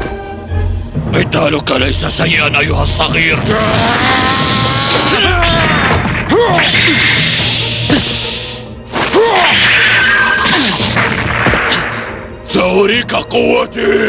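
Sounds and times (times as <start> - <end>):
dramatic background music: 0.0 - 14.0.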